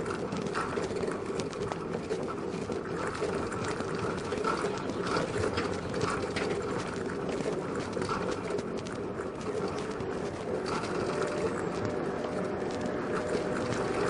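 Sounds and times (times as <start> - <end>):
bicycle rolling over asphalt: 0.0 - 14.0
bike basket rattling: 0.0 - 14.0.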